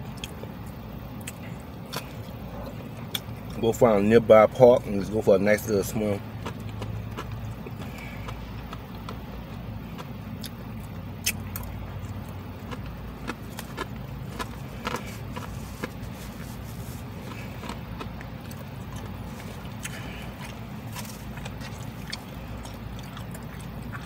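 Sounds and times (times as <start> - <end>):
chewing crispy chicken: 0.0 - 3.7, 5.8 - 24.0
low car cabin hum: 0.0 - 24.0.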